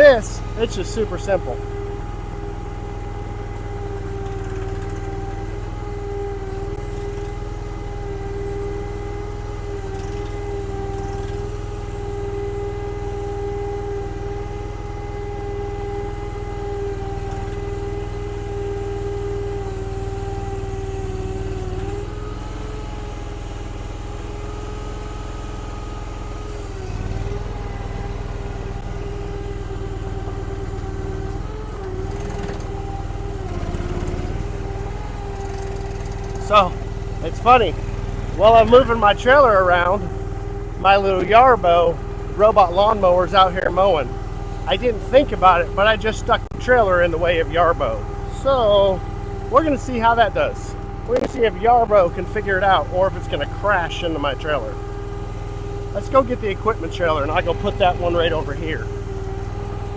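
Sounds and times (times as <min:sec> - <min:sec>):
skid steer engine at high revs: 0:00.0 - 0:59.9.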